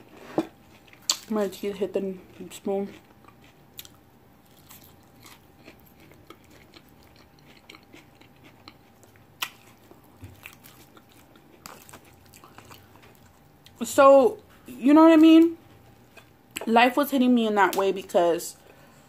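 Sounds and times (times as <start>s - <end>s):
chewing and crunching food: 0.6s - 16.7s.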